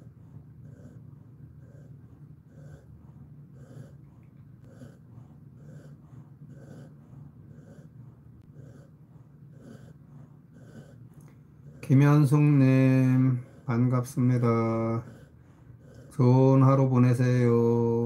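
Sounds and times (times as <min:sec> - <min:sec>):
dog breathing softly: 0:00.0 - 0:18.0
steady low hum: 0:00.0 - 0:18.0.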